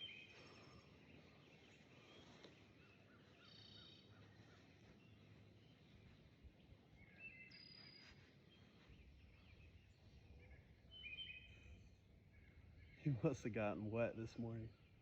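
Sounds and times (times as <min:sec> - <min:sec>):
distant birds calling: 0:00.0 - 0:15.0.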